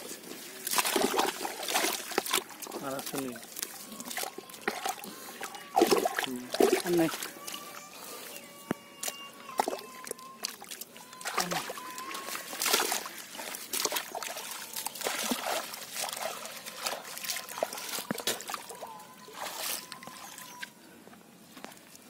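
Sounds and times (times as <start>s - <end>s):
muddy water sloshing and splashing: 0.0s - 22.0s.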